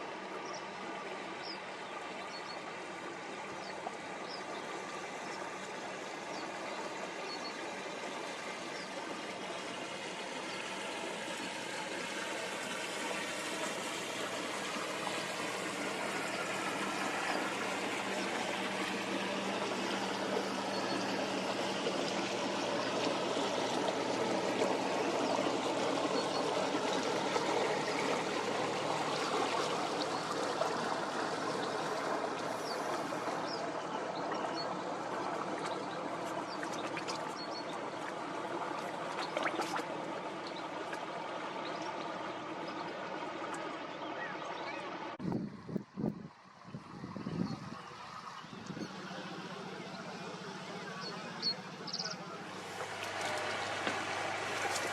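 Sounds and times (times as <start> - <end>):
low engine hum: 0.0 - 54.9
river water rushing and lapping: 0.0 - 54.9.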